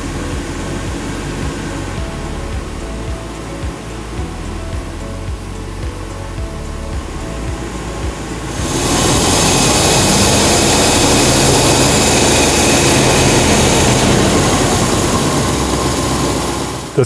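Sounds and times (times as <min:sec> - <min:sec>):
car engine running loud: 0:00.0 - 0:04.8, 0:07.0 - 0:17.0
strong hissing rush: 0:00.0 - 0:17.0.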